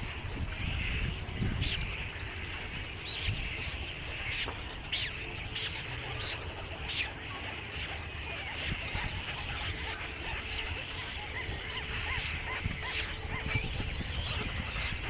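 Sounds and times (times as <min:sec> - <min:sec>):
chatter of many birds: 0:00.0 - 0:15.0.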